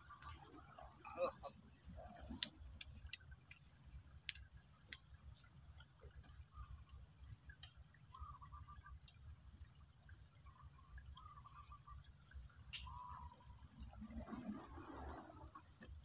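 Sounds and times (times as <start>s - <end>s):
soft clicks and drip-like ticks: 0.0s - 16.0s.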